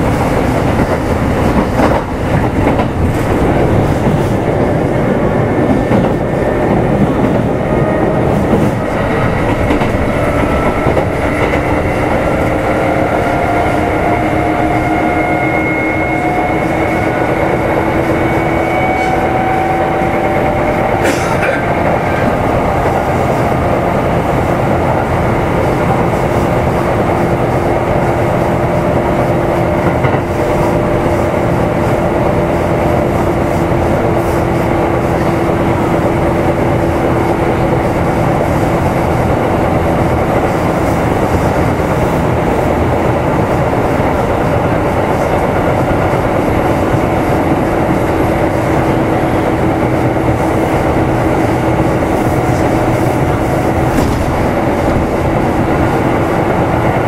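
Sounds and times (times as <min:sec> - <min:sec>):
train motor and gear hum: 0:00.0 - 0:57.0
train wheels rolling on rails: 0:00.0 - 0:57.0.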